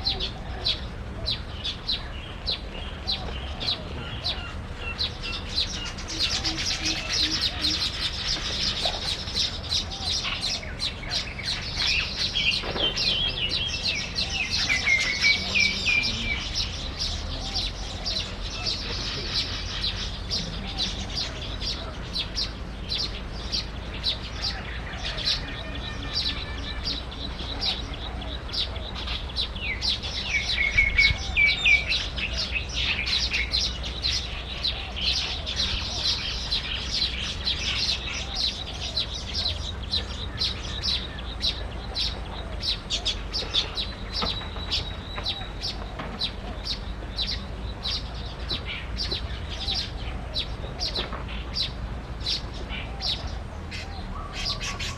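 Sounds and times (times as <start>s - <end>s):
bird trill: 0.0s - 54.9s
small birds chirping: 0.0s - 54.9s.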